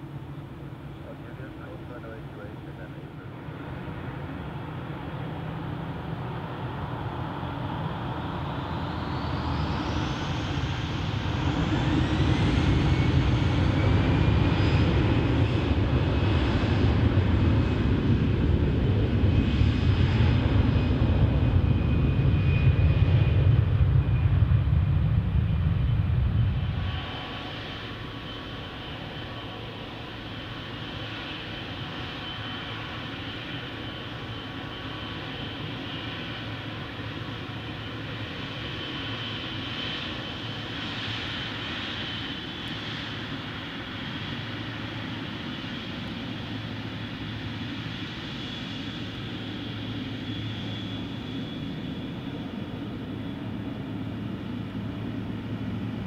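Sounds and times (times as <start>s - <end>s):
distant jet whine at low power: 0.0s - 56.0s.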